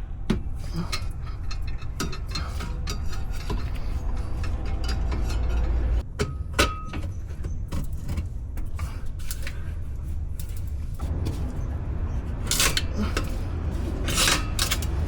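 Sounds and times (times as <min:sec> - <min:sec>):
steady low rumble: 0:00.0 - 0:06.0, 0:07.2 - 0:15.0.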